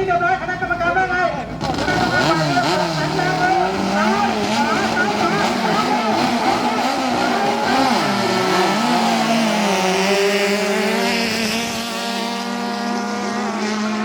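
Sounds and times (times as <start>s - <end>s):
boat engines revving: 0.0s - 14.0s.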